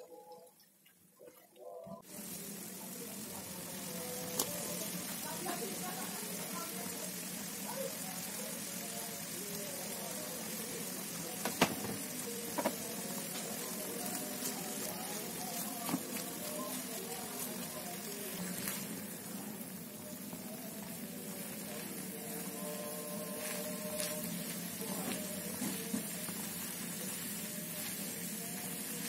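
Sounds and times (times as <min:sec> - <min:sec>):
chicken sizzling in a frying pan: 0:02.0 - 0:29.0.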